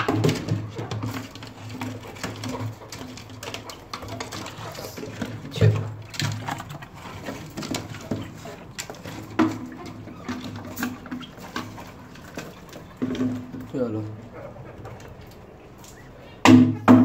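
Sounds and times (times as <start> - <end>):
knocks and rattles on wire-mesh cage: 0.0 - 15.3, 16.4 - 17.0.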